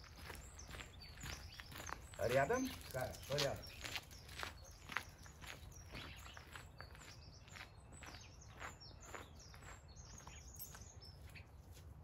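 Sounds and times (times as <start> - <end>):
faint birds chirping: 0.0 - 12.0
soft footsteps walking: 0.0 - 12.0.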